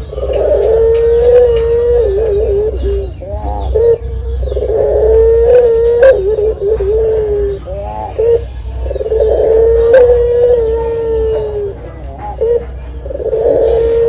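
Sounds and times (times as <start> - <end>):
dove cooing: 0.0 - 14.0
low steady hum: 0.0 - 14.0.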